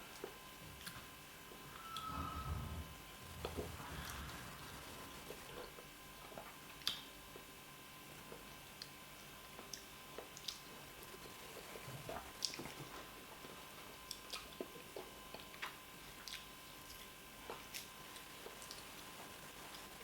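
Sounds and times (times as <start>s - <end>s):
soft wet chewing: 0.0s - 2.1s, 5.2s - 7.5s, 8.1s - 20.0s.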